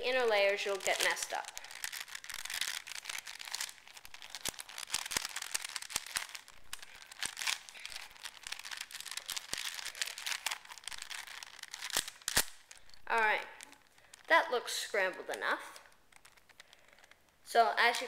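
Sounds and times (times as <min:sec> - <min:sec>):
puzzle cube clicking and rattling: 0:00.0 - 0:17.4.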